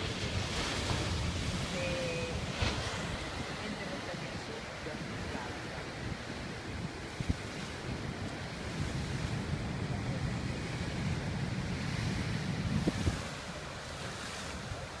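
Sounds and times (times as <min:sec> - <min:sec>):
ocean surf breaking on rocks: 0:00.0 - 0:15.0
wind buffeting microphone: 0:00.0 - 0:15.0.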